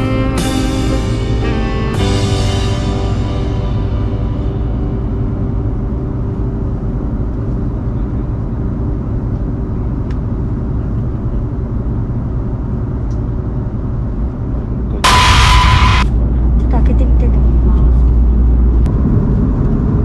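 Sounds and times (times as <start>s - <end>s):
airliner engines and airflow rumble: 0.0s - 20.0s.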